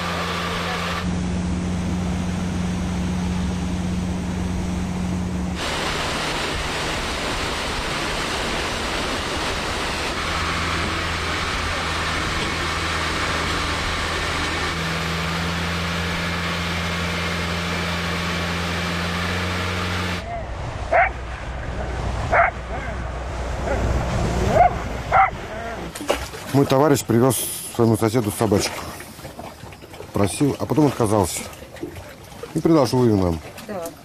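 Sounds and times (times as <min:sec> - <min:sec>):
outboard engine drone: 0:00.0 - 0:34.0
wind and water rushing: 0:00.0 - 0:34.0.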